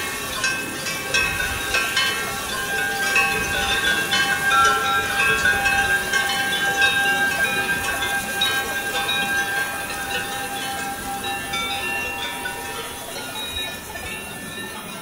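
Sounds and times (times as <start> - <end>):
ambient music sustained tones: 0.0 - 15.0.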